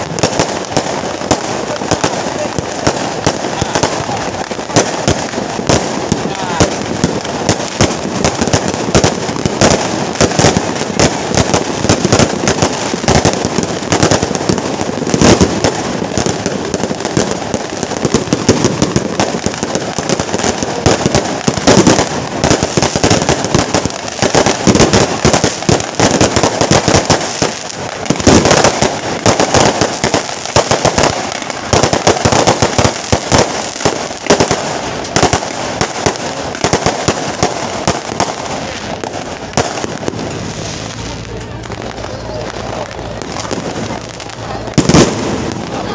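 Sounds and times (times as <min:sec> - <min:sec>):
firecrackers crackling: 0:00.0 - 0:45.9.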